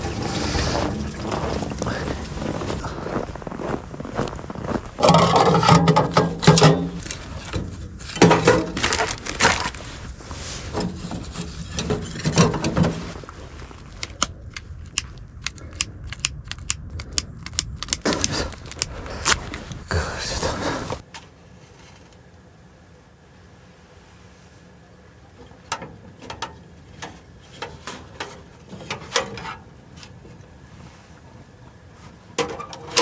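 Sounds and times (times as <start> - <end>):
rustling and crinkling: 0.0 - 22.5, 23.9 - 33.0.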